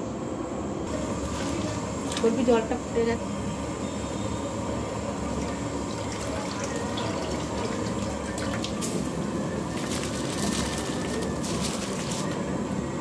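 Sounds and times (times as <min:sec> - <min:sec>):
water boiling and bubbling: 0:00.9 - 0:12.7.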